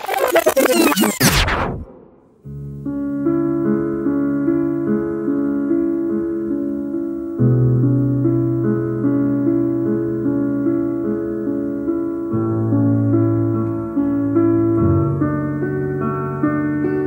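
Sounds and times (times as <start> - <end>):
slow piano music: 2.4 - 17.0.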